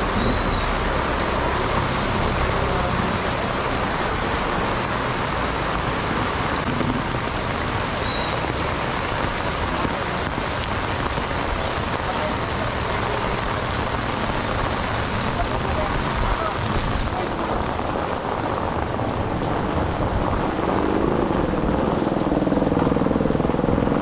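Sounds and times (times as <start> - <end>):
torrential rain on pavement: 0.0 - 24.0.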